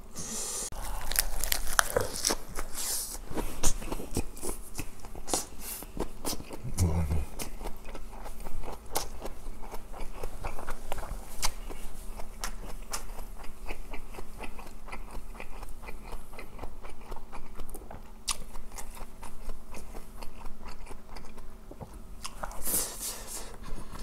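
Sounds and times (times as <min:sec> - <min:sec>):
wet crunchy chewing: 0:00.7 - 0:22.9.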